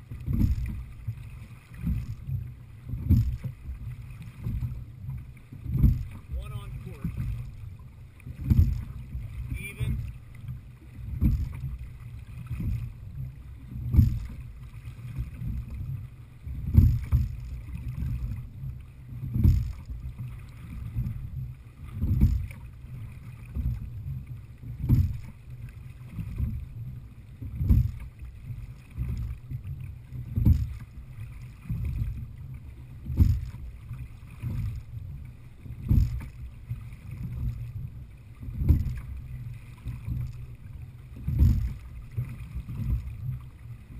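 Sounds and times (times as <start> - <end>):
low rumble of water and wind: 0.0 - 43.9
oars knocking and splashing: 0.0 - 43.9.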